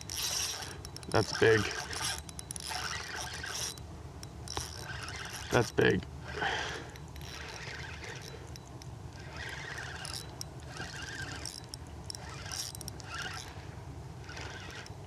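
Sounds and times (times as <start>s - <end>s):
small clicks and knocks: 0.0s - 6.0s, 6.9s - 13.6s.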